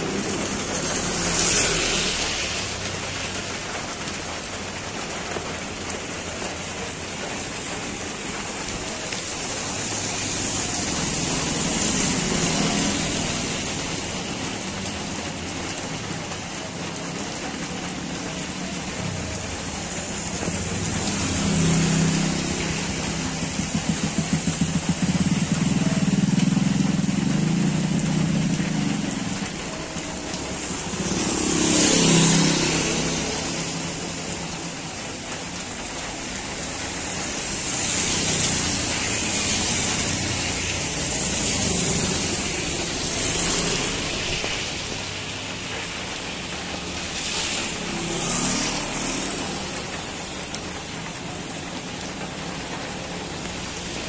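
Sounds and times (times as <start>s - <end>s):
heavy rain hissing: 0.0s - 54.0s
tyres swishing through water: 0.0s - 54.0s.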